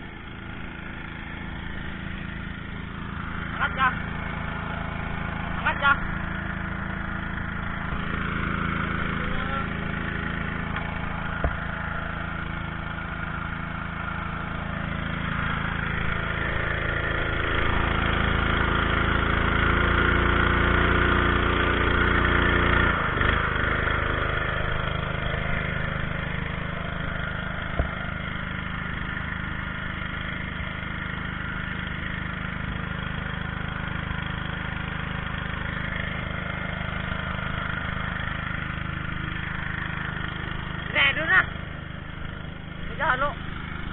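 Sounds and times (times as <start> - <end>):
engine running and revving: 0.0 - 43.9.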